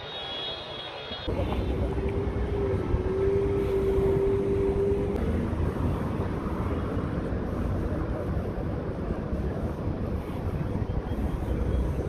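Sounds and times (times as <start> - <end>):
steady hum: 0.0 - 12.0
passing cars rumble: 1.0 - 12.0.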